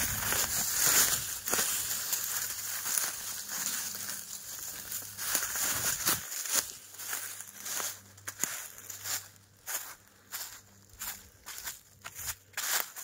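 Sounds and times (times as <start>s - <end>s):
footsteps on forest floor: 0.0s - 13.0s.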